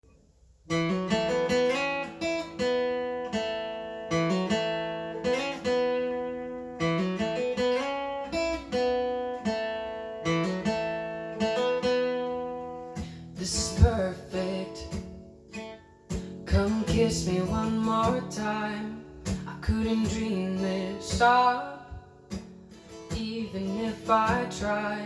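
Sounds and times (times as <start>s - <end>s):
acoustic guitar chords: 0.1s - 25.0s.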